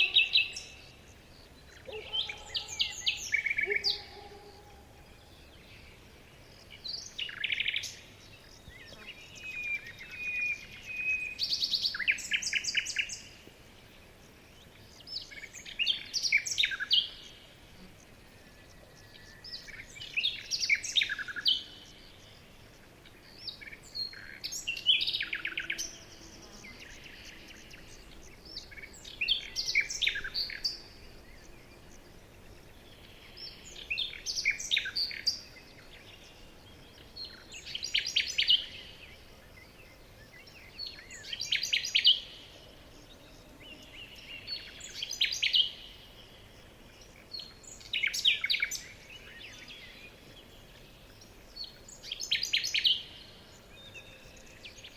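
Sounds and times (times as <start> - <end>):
faint background hiss: 0.0 - 54.9
songbird chirping: 0.0 - 54.9.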